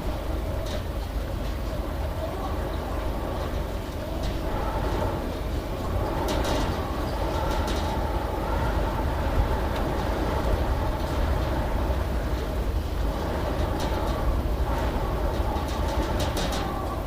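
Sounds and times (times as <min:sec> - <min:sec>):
vehicle engine rumble: 0:00.0 - 0:17.0
high rattles or squeals: 0:02.9 - 0:17.0.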